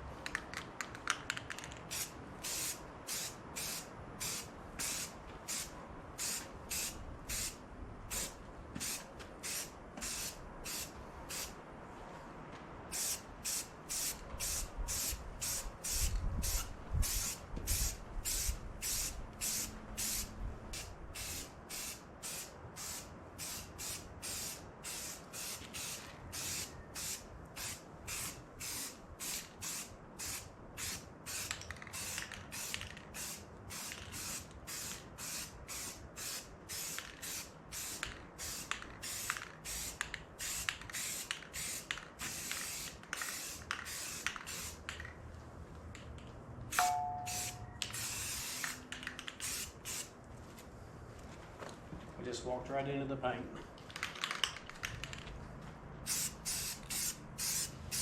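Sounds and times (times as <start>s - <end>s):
aerosol can spraying: 1.9s - 11.5s, 13.0s - 44.9s, 46.8s - 50.1s, 56.1s - 58.0s.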